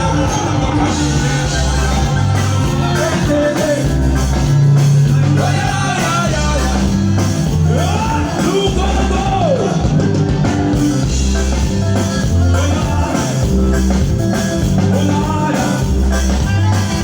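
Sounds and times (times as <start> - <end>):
person singing: 0.0 - 10.1, 12.2 - 17.0
heavy bass notes: 0.0 - 17.0
live band music: 0.0 - 17.0.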